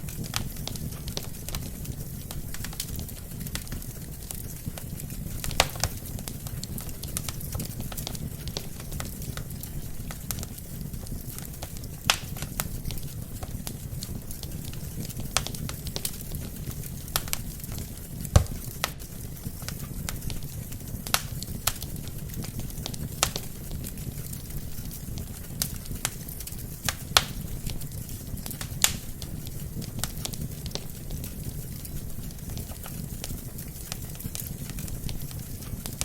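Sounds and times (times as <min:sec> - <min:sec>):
rumble of burning logs: 0:00.0 - 0:36.0
wood fire crackling: 0:00.0 - 0:36.0.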